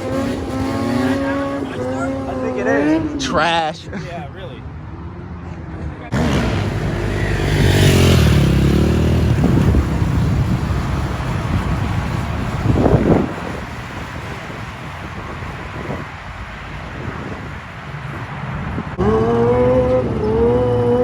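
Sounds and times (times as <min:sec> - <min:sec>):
motorcycle engine revving: 0:00.0 - 0:03.4, 0:06.1 - 0:21.0.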